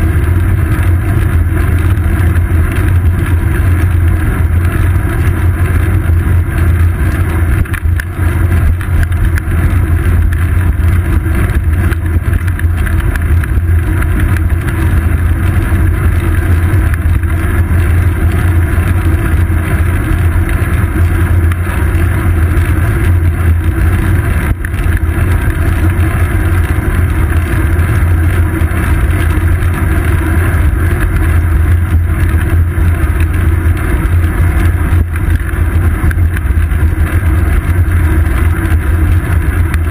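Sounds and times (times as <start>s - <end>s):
bicycle wind and road rumble: 0.0s - 39.9s.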